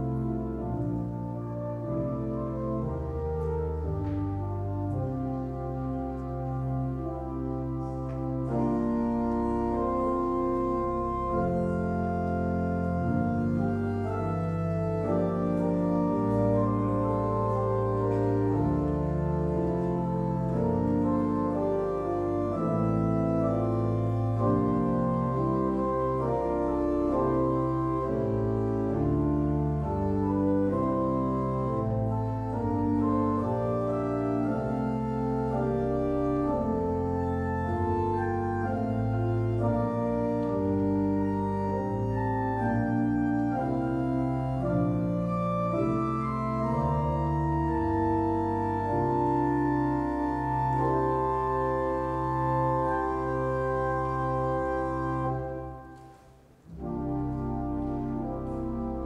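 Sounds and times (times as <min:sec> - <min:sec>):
church organ slow chords: 0:00.0 - 0:59.0.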